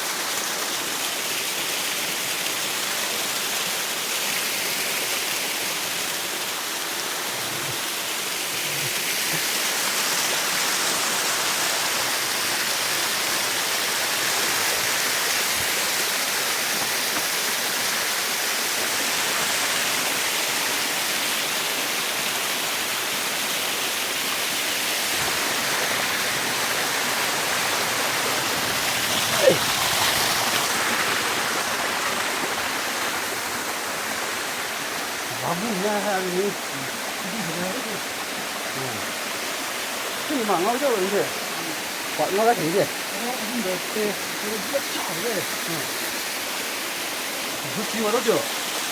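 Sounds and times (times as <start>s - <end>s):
flowing stream water: 0.0s - 48.9s.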